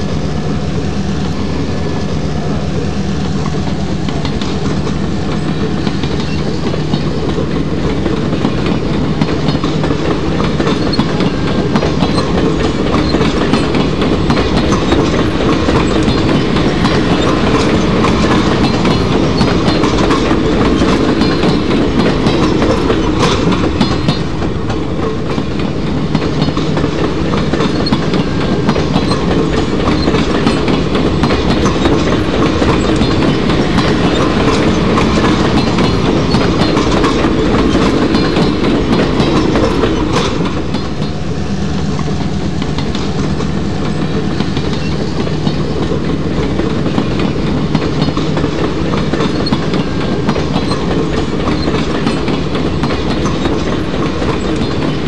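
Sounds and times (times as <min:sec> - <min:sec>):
model train wheels clicking: 0:00.0 - 0:55.0.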